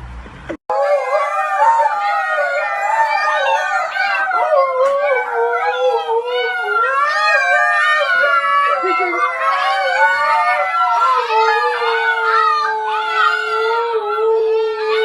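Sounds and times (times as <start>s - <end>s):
dog howling: 0.7s - 15.0s.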